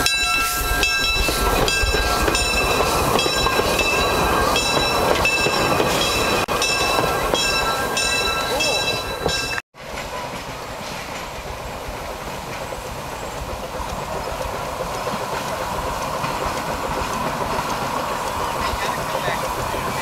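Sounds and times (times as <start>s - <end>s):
steam locomotive running past: 0.0s - 20.0s.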